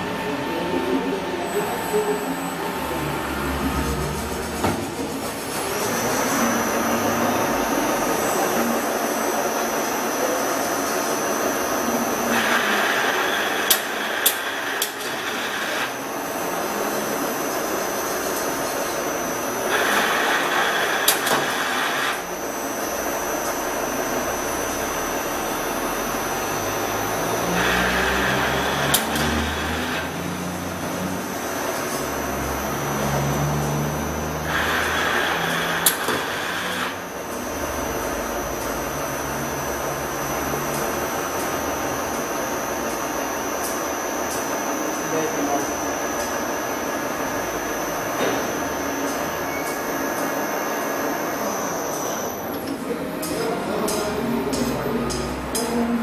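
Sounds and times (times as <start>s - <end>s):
machine hum with high whine: 0.0s - 56.0s.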